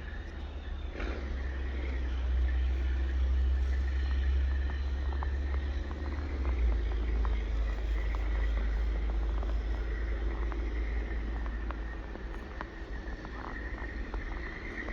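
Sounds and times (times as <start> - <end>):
car passing with low rumble: 0.0 - 14.9
faint clicks: 2.7 - 14.9.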